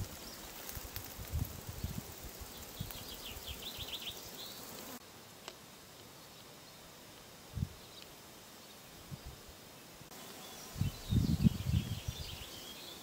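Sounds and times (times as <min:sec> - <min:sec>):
garden ambience: 0:00.0 - 0:13.0.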